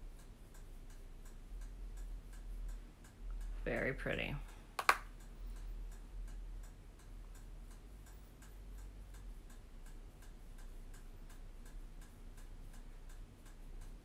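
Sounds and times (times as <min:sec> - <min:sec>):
faint even ticking: 0:00.0 - 0:14.0
low steady hum: 0:00.0 - 0:14.0.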